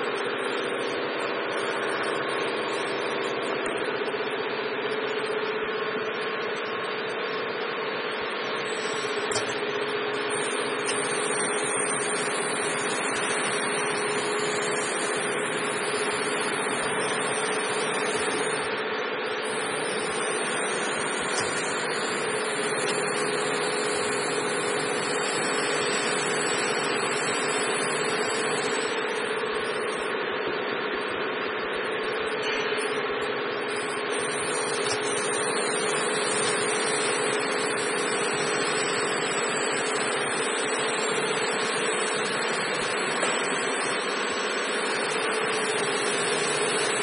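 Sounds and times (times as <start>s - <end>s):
filling machine motor hum: 0.0s - 47.0s.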